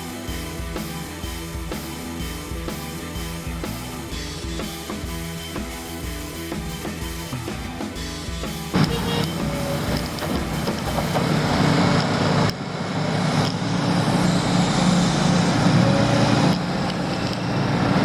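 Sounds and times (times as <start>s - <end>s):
heavy diesel engines running: 0.0s - 18.0s.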